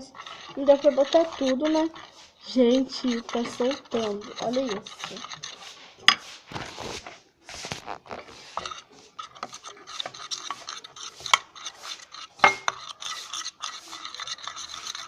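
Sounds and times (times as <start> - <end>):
spoon scraping thick slime: 0.0 - 15.0.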